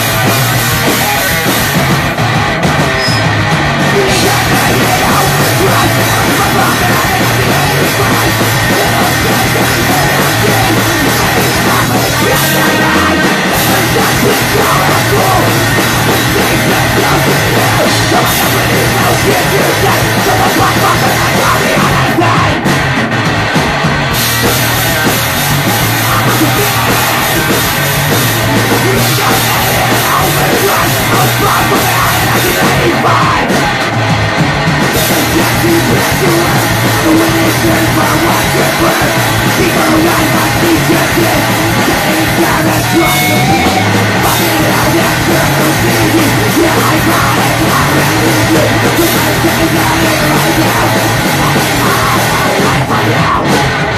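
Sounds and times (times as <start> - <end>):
distorted electric guitars: 0.0 - 53.9
live punk rock band: 0.0 - 53.9
pounding drum kit: 0.0 - 53.9.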